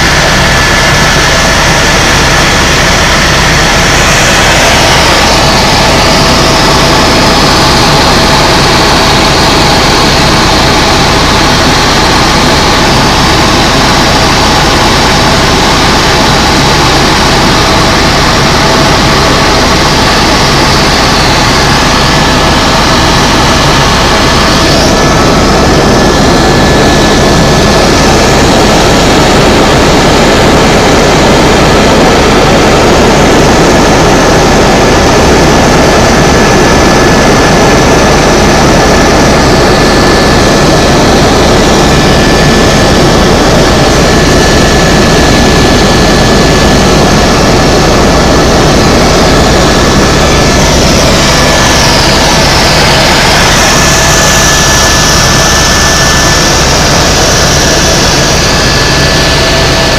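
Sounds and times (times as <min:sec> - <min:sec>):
helicopter engine and rotor: 0:00.0 - 0:59.9
thin high whine: 0:00.0 - 0:59.9.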